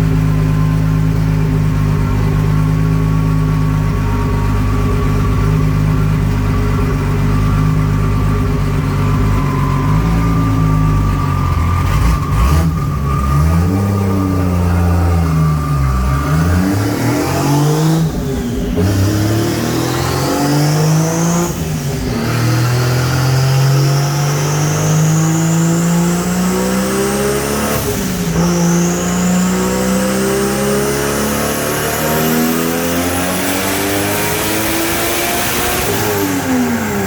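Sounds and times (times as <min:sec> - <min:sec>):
car engine revving at full throttle: 0:00.0 - 0:37.0.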